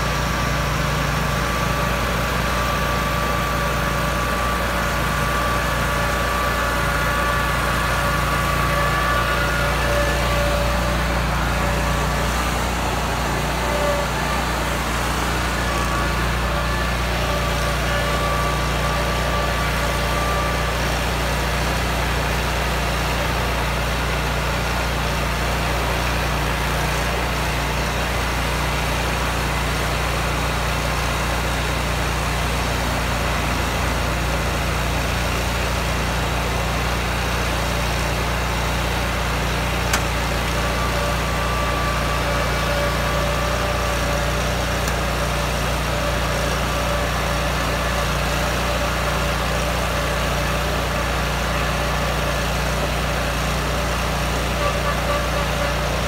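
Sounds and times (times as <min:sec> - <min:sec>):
riding mower engine running: 0:00.0 - 0:56.0.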